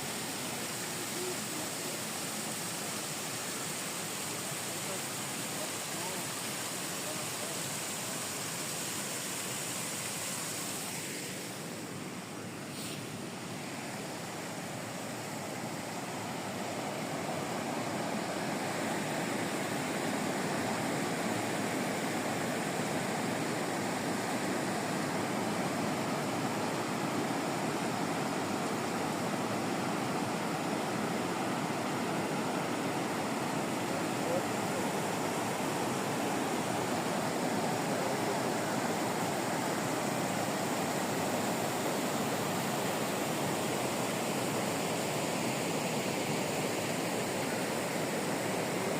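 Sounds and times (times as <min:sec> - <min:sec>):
river rushing: 0:00.0 - 0:48.9.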